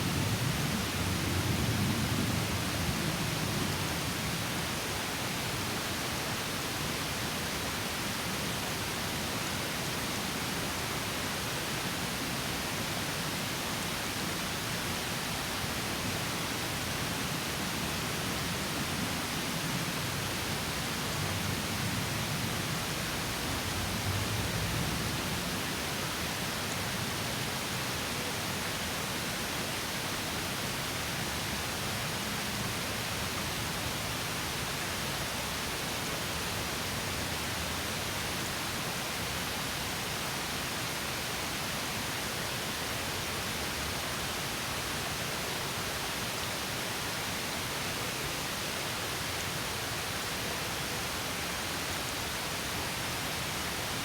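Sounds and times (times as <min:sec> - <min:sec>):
stream over small waterfall: 0:00.0 - 0:54.0.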